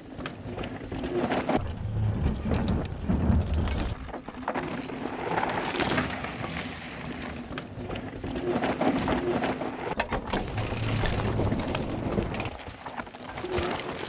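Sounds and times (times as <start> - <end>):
bike knocking and rattling: 0.0 - 14.0
bike tyres crunching and skidding on dirt: 0.0 - 14.0.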